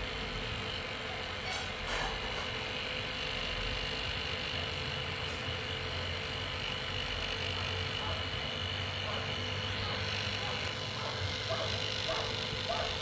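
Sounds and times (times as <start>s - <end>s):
cooler whirring with whine: 0.0s - 13.0s.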